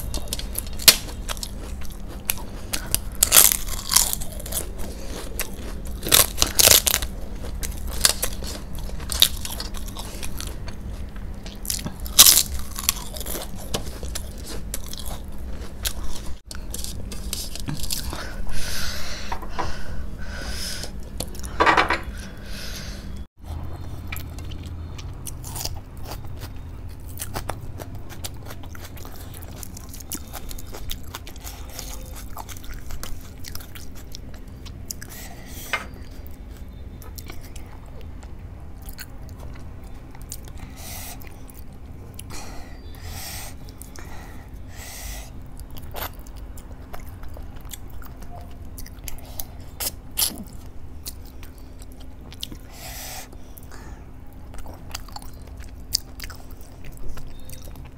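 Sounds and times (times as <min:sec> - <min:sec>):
chewing with mouth smacks: 0:00.0 - 0:18.4, 0:23.4 - 0:44.7, 0:45.3 - 0:57.9
faint steady hum: 0:00.0 - 0:57.9.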